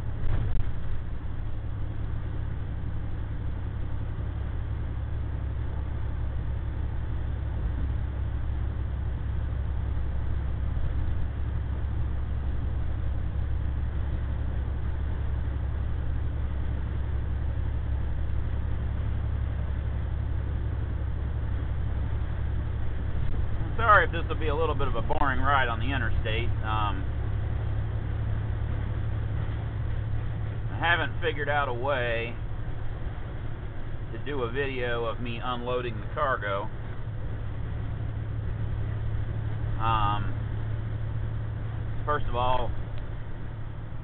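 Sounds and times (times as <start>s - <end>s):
road noise: 0.0s - 44.0s
truck diesel engine drone: 0.0s - 44.0s.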